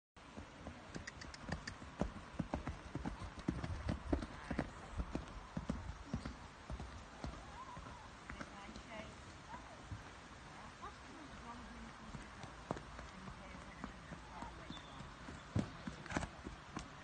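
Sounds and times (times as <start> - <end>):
horse hoofbeats on sand: 0.3 - 10.1, 10.8 - 17.0.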